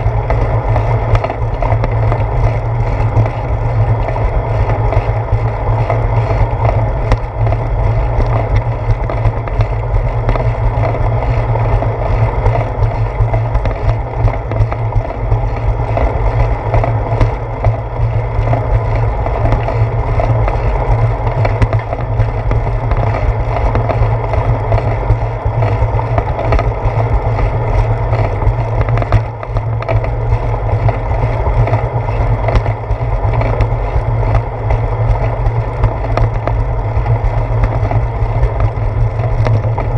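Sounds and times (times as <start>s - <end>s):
bicycle rattling: 0.0s - 39.9s
bicycle tyres rumbling on concrete: 0.0s - 39.9s.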